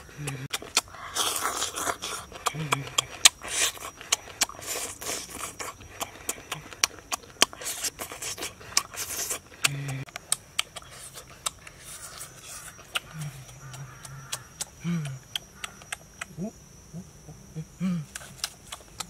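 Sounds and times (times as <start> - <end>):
person chewing meat: 0.0 - 16.3, 18.1 - 19.0
wet mouth clicks and smacks: 0.2 - 16.3, 18.1 - 19.0.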